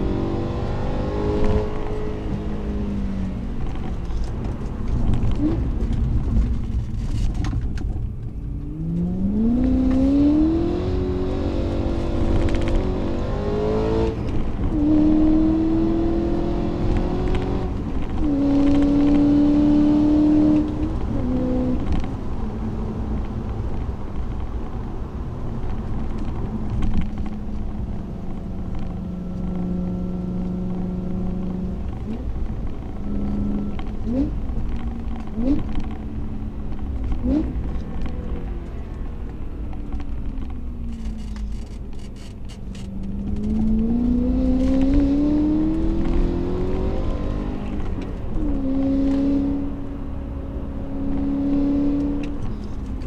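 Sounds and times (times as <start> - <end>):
car engine revving through gears: 0.0 - 7.2, 8.5 - 24.9, 25.7 - 53.0
road and tyre noise: 0.0 - 53.0.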